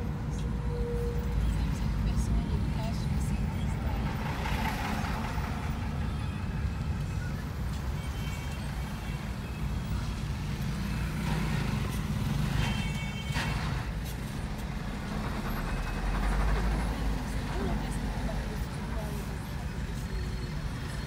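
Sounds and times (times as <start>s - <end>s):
muffled road traffic rumble: 0.0s - 21.0s.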